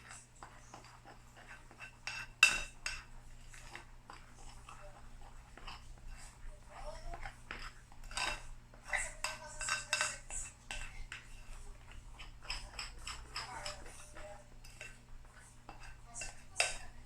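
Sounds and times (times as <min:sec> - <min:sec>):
metal utensils clinking on dishes: 0:00.0 - 0:17.0.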